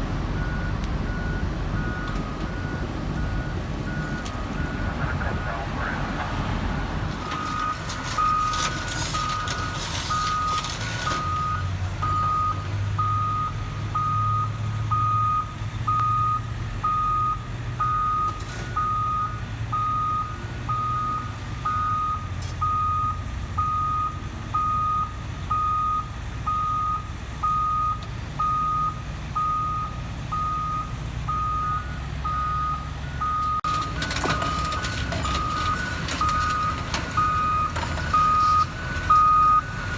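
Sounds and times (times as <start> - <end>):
low diesel engine rumble: 0.0 - 39.9
backup alarm beeping: 6.8 - 39.9.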